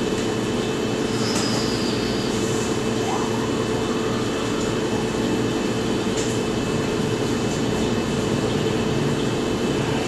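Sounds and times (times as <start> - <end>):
refrigerator humming: 0.0 - 10.0.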